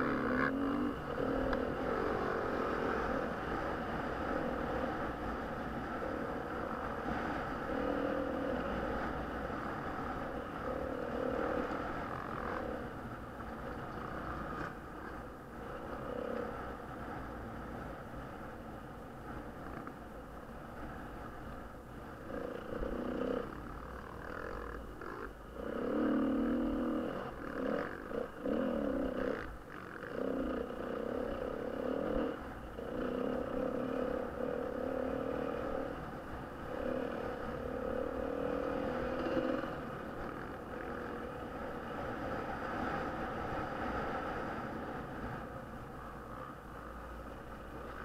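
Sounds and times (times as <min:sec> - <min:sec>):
motorcycle engine revving: 0:00.0 - 0:19.9, 0:20.8 - 0:48.0
wind rumble on microphone: 0:00.0 - 0:48.0.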